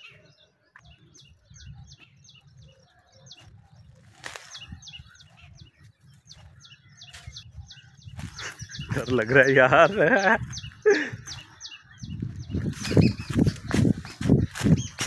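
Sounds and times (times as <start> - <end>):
bird chirping: 0.0 - 15.0
footsteps in dry undergrowth: 0.1 - 15.0.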